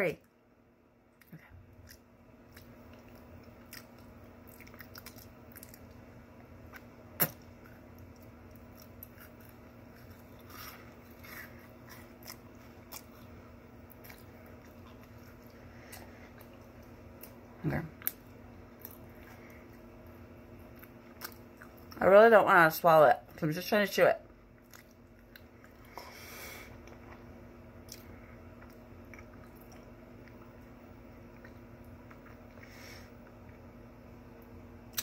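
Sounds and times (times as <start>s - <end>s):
chewing crunchy food: 1.2s - 22.0s, 24.5s - 33.7s.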